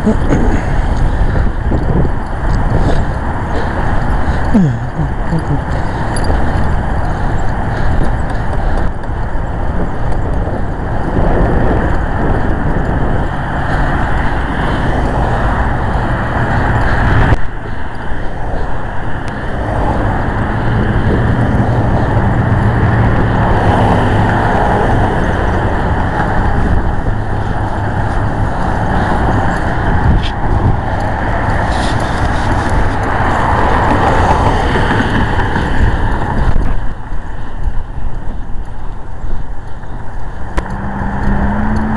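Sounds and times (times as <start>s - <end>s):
vehicle engine hum: 0.0s - 41.9s.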